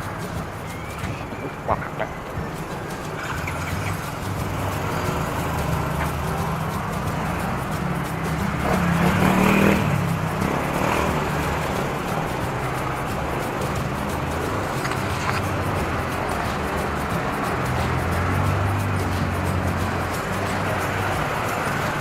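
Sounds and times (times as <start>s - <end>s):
traffic engine hum: 0.0s - 22.0s
vehicle passing close by: 0.0s - 22.0s.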